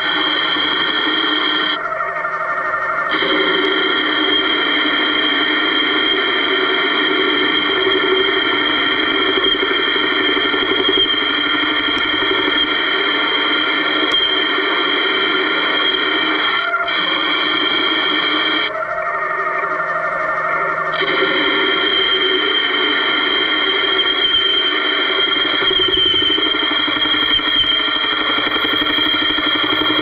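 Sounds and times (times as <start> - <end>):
metal lathe whine: 0.0 - 30.0.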